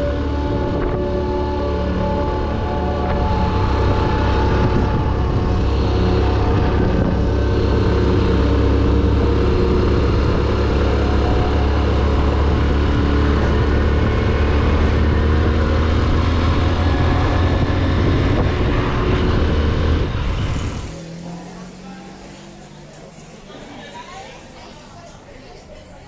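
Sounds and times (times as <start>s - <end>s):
motorcycle engine drone: 0.0s - 25.0s.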